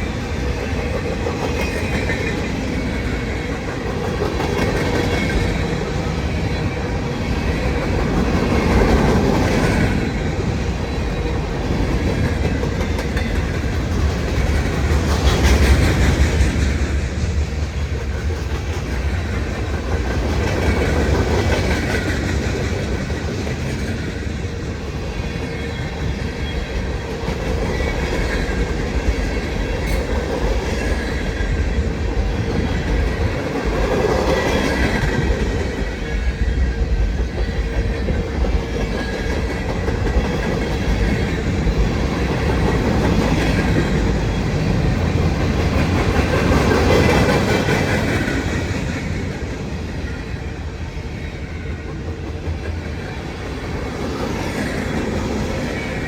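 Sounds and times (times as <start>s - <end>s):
clickety-clack over rail joints: 0.0s - 56.0s
steel wheels rumbling on rail: 0.0s - 56.0s.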